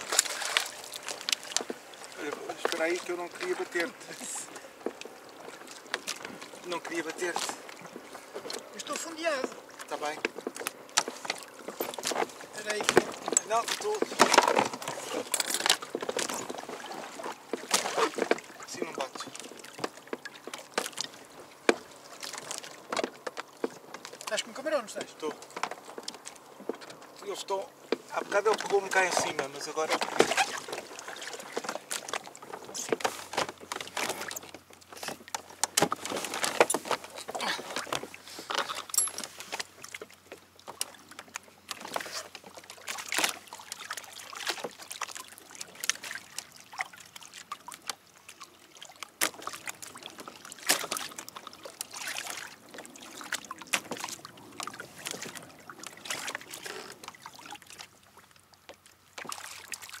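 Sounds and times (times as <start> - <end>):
water lapping against a hull: 0.0 - 60.0.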